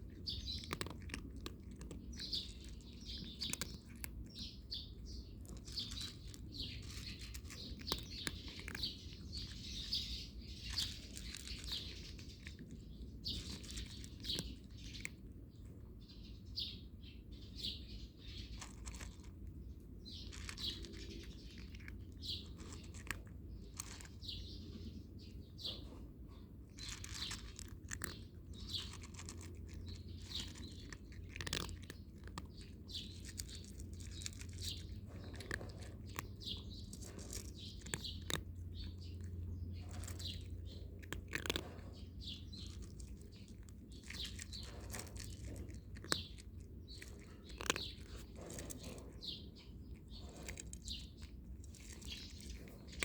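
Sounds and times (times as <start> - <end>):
cats crunching dry food: 0.0 - 53.0
small birds chirping: 0.0 - 53.0.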